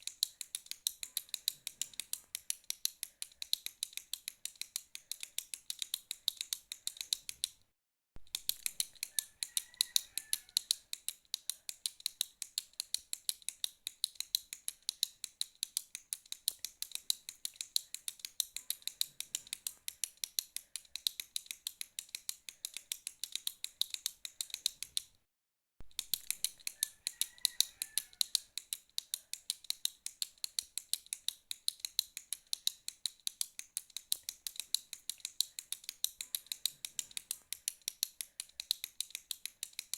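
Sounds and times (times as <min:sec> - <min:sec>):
retractable pen clicking: 0:00.0 - 0:07.6, 0:08.3 - 0:25.2, 0:25.9 - 0:39.9.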